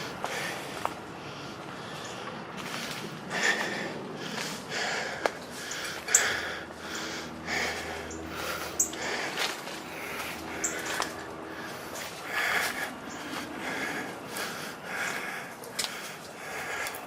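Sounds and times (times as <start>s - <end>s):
footsteps crunching through leaves: 0.0s - 16.7s
branches and leaves rustling: 0.0s - 17.0s.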